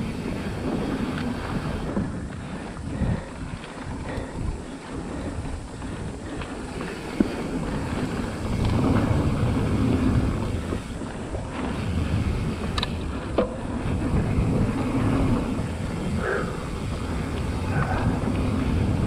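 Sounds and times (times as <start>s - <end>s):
tyres rolling on dirt and gravel: 0.0s - 19.0s
wind buffeting microphone: 0.0s - 19.0s.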